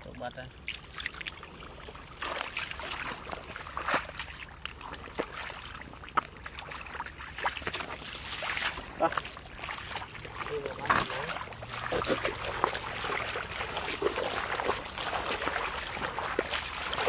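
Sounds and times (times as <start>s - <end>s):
muddy water sloshing and splashing: 0.0s - 17.0s.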